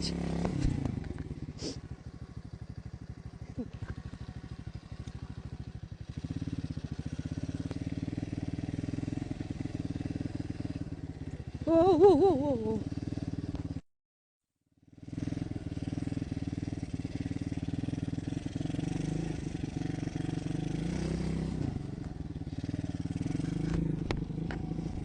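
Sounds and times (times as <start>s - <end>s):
motocross bike engine running: 0.0s - 13.8s, 14.7s - 25.0s.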